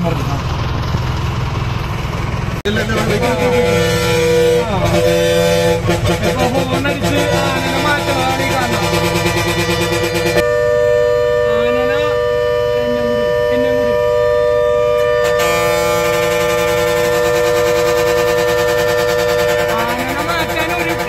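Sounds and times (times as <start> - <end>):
bus air horn blast: 2.9 - 21.0.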